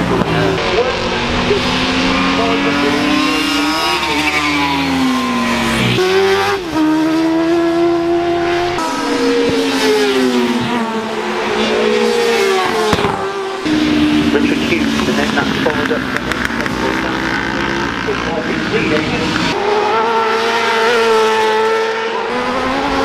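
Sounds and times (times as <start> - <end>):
racing motorcycles passing at speed: 0.0 - 23.0.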